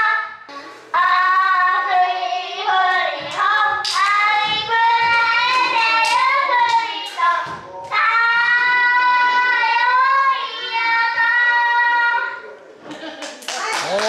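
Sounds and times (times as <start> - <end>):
children singing: 0.0 - 12.6.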